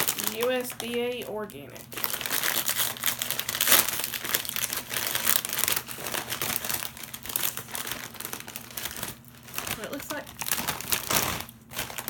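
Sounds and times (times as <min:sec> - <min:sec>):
plastic chip bag crinkling: 0:00.0 - 0:12.0.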